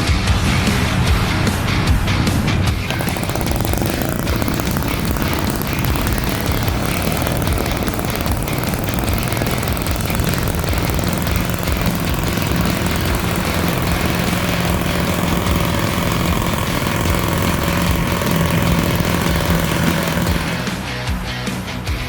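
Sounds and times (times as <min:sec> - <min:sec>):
model engine running at high speed: 0:00.0 - 0:22.0.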